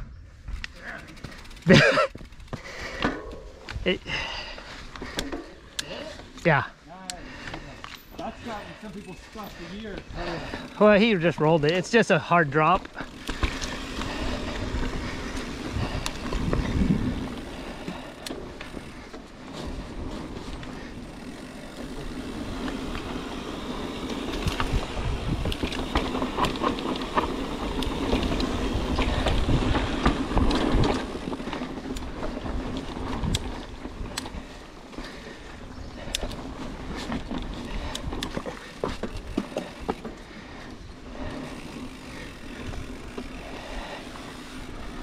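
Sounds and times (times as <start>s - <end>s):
bike tyres rolling on dirt: 0.0s - 45.0s
sharp clicks from bike: 0.4s - 3.9s, 4.6s - 12.0s, 12.6s - 45.0s.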